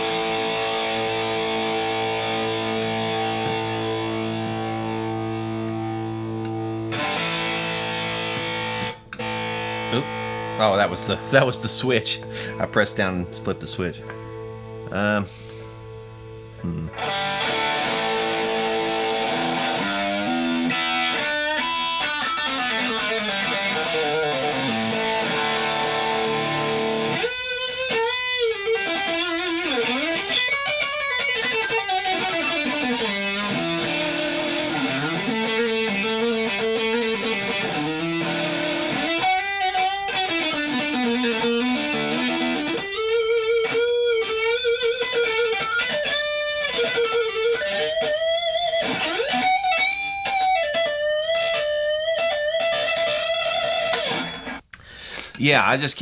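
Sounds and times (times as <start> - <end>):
distorted electric guitar notes: 0.0 - 55.2.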